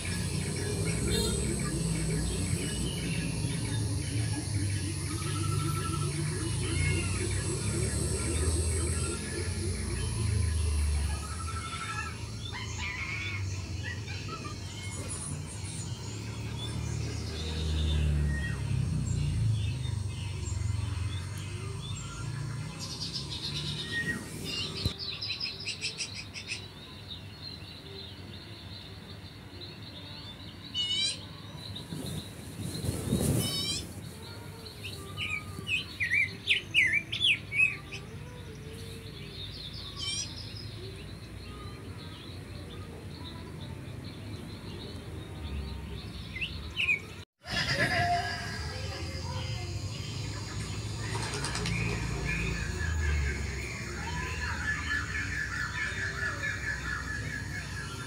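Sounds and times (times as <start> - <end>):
small birds chirping: 0.0 - 47.6, 48.5 - 58.0.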